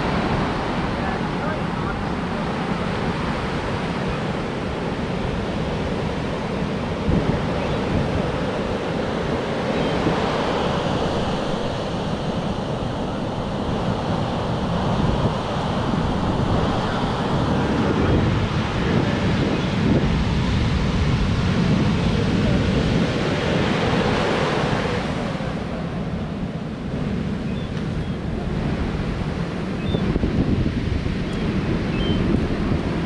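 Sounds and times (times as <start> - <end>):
surf breaking on beach: 0.0 - 33.0
wind buffeting microphone: 0.0 - 33.0.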